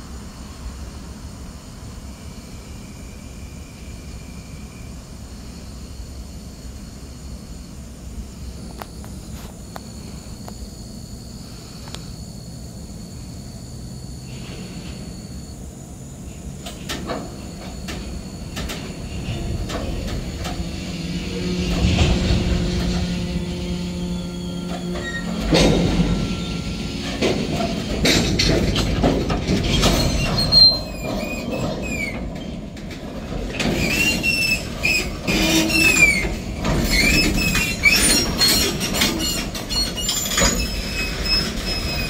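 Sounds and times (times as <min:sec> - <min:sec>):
train low rumble: 0:00.0 - 0:42.0.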